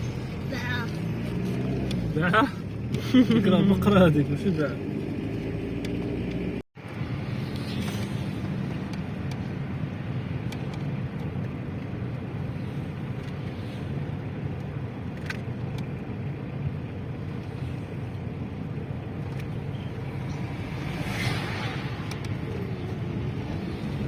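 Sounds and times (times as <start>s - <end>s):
car cabin road and engine noise: 0.0s - 24.0s.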